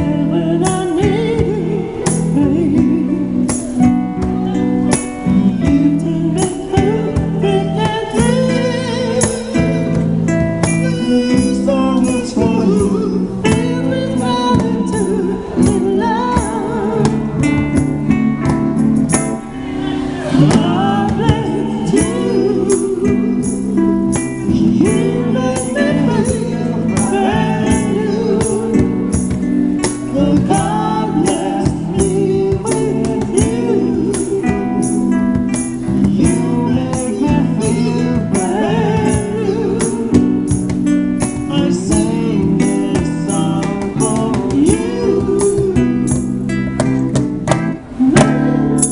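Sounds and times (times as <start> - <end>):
man and woman singing: 0.0 - 4.0, 5.2 - 17.6, 20.2 - 35.1, 35.8 - 46.4
hand percussion beat: 0.0 - 19.6, 20.2 - 48.9
amplified acoustic guitar strumming: 0.0 - 48.9.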